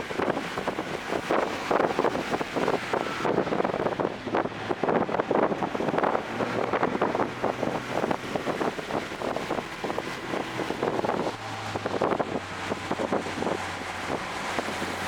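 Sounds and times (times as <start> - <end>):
car engine at speed: 0.0 - 15.0
wind buffeting on microphone: 0.0 - 15.0.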